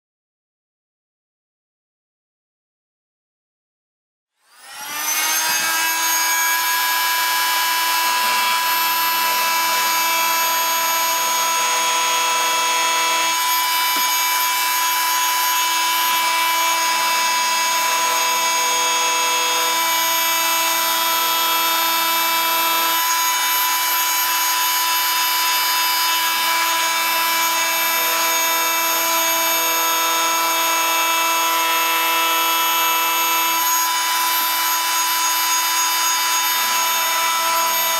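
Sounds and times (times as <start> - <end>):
oscillating multi-tool whine: 4.4 - 37.9
blade cutting plastic tube: 4.6 - 37.9.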